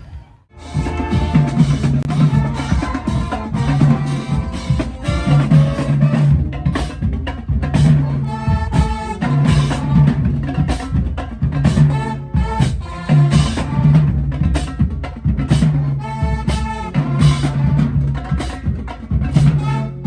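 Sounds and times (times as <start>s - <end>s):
steady drum beat: 0.5s - 20.0s.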